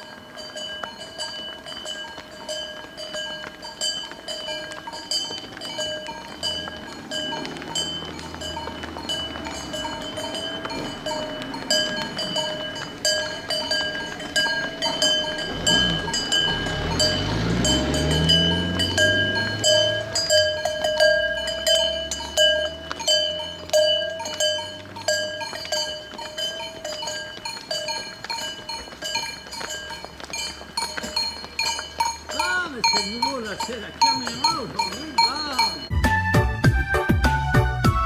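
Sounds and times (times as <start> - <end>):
cowbells clanking: 0.0 - 36.3.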